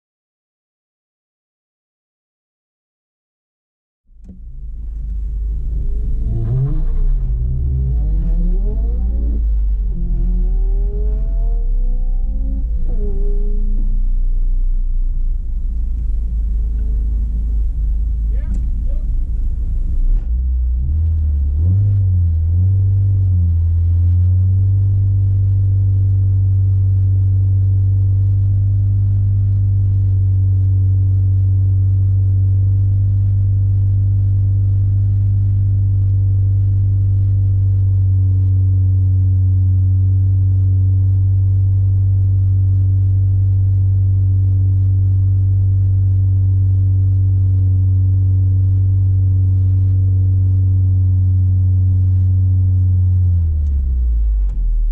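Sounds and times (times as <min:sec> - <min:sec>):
car engine revving: 0:04.2 - 0:47.8, 0:48.4 - 0:54.9.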